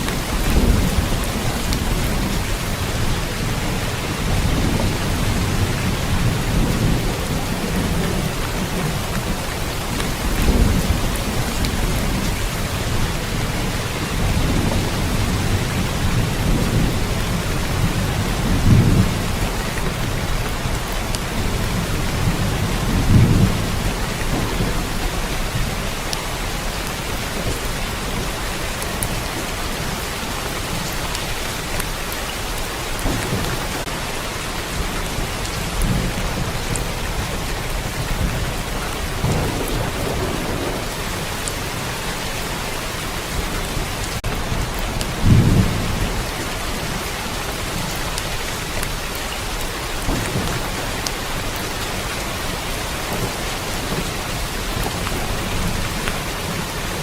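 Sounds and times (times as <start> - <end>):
low rumbles of thunder: 0.0 - 31.2, 33.0 - 34.0, 34.6 - 42.0, 43.2 - 48.9, 50.0 - 57.0
rain falling: 0.0 - 57.0.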